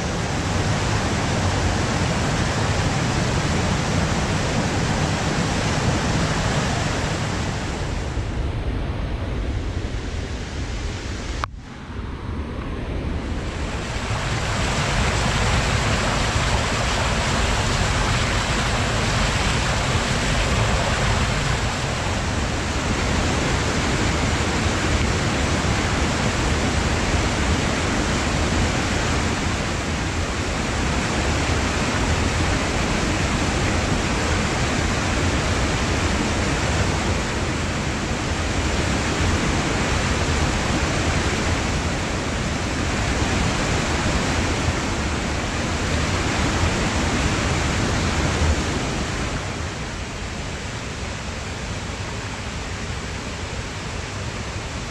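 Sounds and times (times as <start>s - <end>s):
mountain stream rushing: 0.0s - 54.9s.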